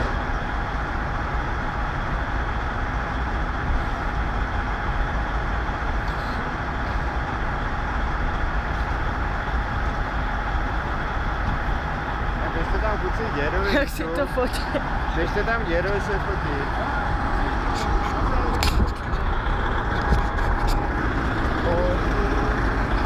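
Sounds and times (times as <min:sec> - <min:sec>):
diesel engine idling: 0:00.0 - 0:23.0
faint whine: 0:00.0 - 0:23.0.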